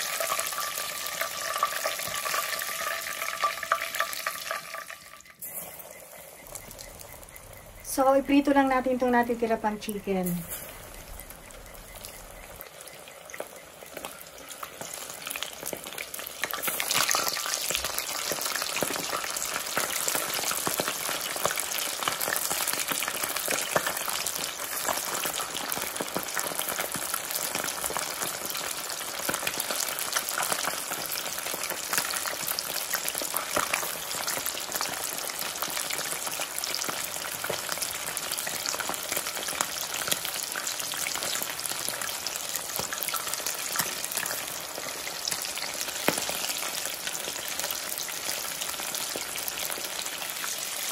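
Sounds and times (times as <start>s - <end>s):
chicken deep-frying in oil: 0.0s - 50.9s.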